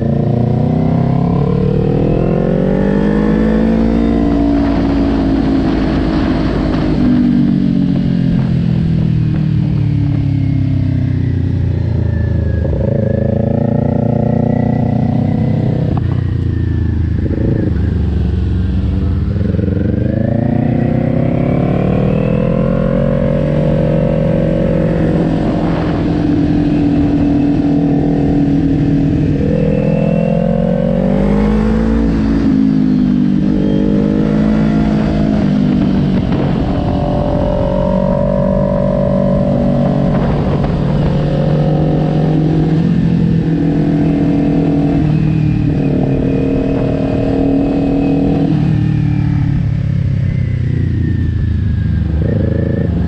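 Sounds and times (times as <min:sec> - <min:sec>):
motorcycle engine revving: 0:00.0 - 0:53.0
low rumble: 0:01.3 - 0:53.0.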